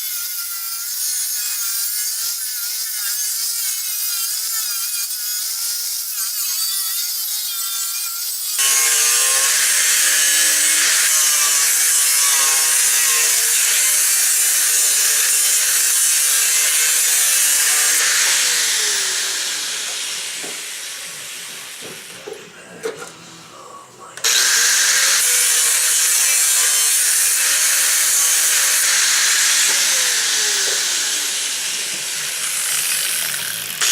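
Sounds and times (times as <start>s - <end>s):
power tool cutting metal: 0.0s - 22.1s, 24.2s - 33.9s.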